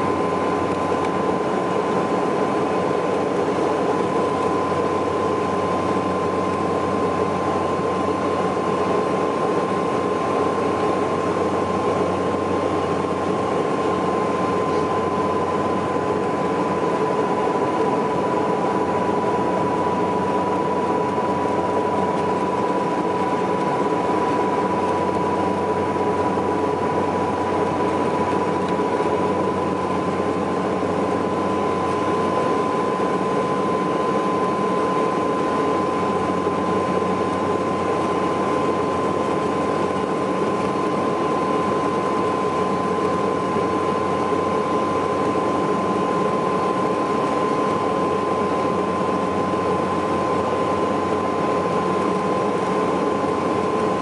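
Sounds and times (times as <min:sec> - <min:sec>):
propeller hum: 0:00.0 - 0:54.0
turboprop engine whine: 0:00.0 - 0:54.0.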